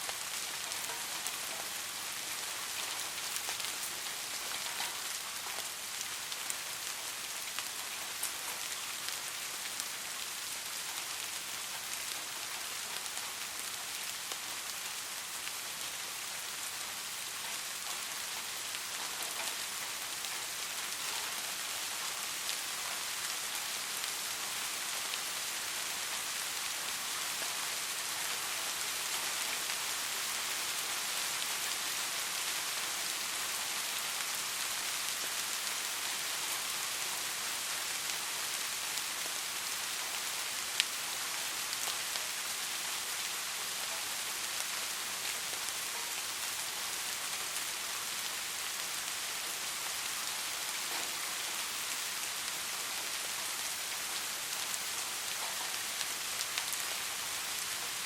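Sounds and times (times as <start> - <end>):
soft rain falling: 0.0 - 58.0.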